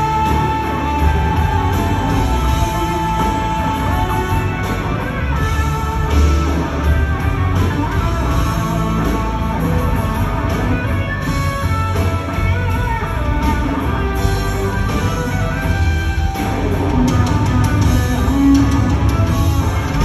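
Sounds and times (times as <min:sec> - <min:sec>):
electric guitar: 0:00.0 - 0:20.0
heavy bass: 0:00.0 - 0:20.0
soft-rock band playing live: 0:00.0 - 0:20.0.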